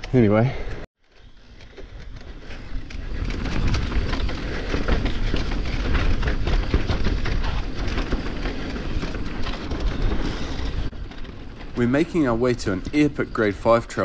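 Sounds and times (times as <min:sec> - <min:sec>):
bike clicks and rattles: 0:00.0 - 0:14.0
tyre noise on dirt: 0:01.1 - 0:14.0
wind rumbling on microphone: 0:01.3 - 0:14.0.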